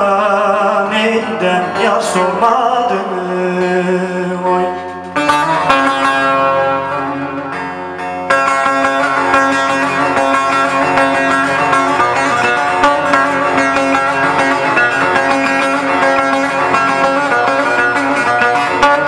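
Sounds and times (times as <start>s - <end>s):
electronic keyboard: 0.0s - 19.0s
plucked lute melody: 0.0s - 19.0s.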